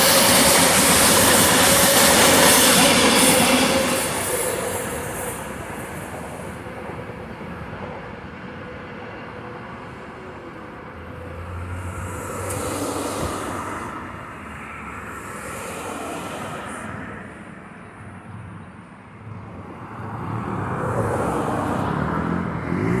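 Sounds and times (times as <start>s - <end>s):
trains rumbling and hissing: 0.0s - 23.0s.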